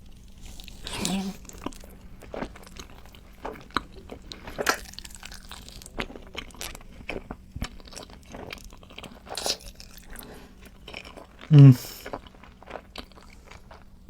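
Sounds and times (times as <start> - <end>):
chewing and mouth smacks: 0.4 - 14.0.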